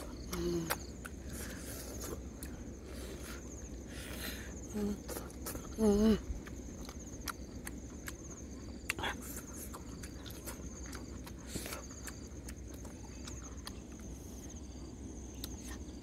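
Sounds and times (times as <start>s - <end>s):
insects trilling: 0.0s - 16.0s
person chewing: 0.0s - 16.0s.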